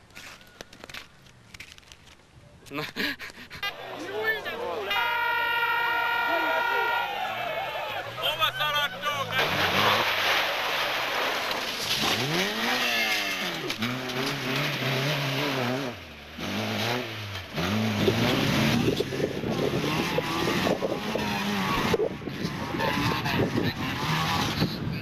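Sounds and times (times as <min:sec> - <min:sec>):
car engine revving: 0:03.6 - 0:24.9.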